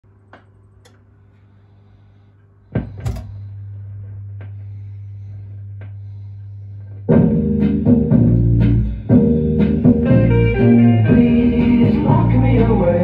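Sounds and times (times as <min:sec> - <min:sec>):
low motor hum: 0:00.1 - 0:13.0.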